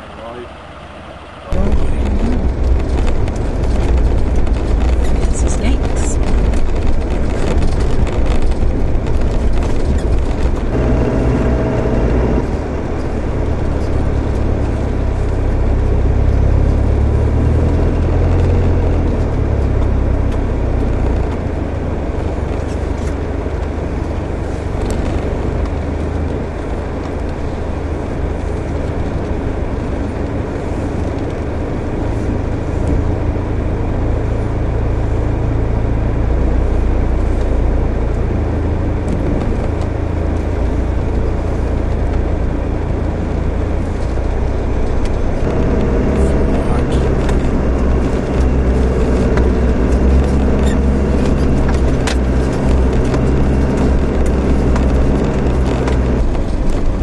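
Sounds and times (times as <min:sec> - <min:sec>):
engine drone inside cab: 0:00.0 - 0:57.0
tyre and road rumble: 0:00.0 - 0:57.0.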